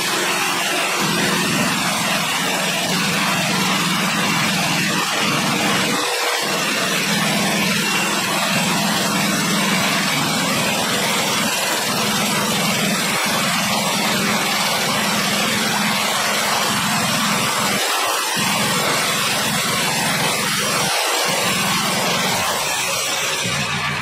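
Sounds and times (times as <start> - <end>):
sawmill engine and blade droning: 0.0 - 24.0.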